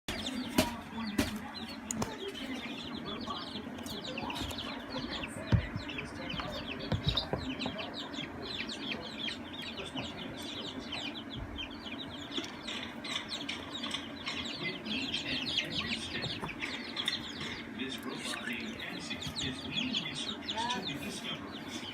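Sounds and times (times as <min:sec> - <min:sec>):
chickens peeping: 0:00.1 - 0:21.9
steady low hum: 0:00.1 - 0:21.9.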